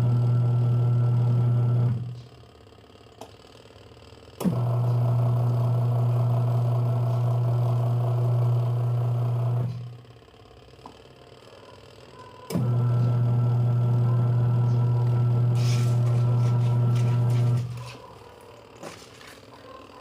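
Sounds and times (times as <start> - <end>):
washing machine motor humming: 0.0 - 20.0.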